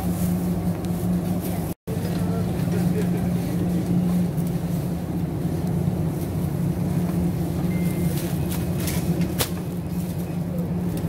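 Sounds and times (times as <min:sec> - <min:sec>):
low mechanical hum and rumble: 0:00.0 - 0:11.0.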